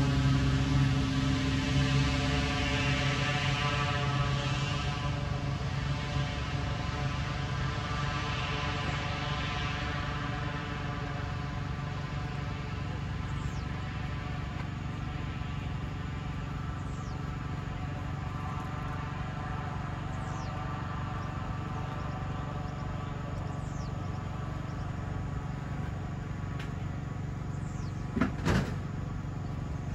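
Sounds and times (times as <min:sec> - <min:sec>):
distant plane engine droning: 0:00.0 - 0:29.9.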